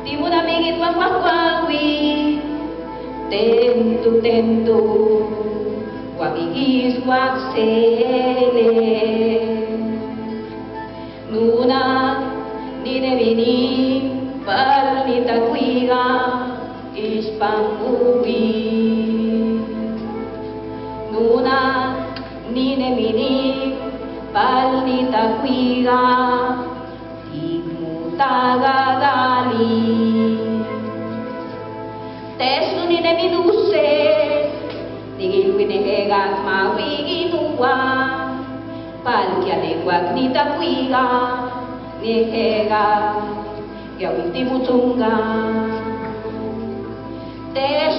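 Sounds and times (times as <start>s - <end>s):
woman singing: 0.0s - 10.2s, 11.3s - 31.4s, 32.4s - 43.4s, 44.0s - 46.8s, 47.5s - 47.9s
low held accompaniment: 0.0s - 47.9s.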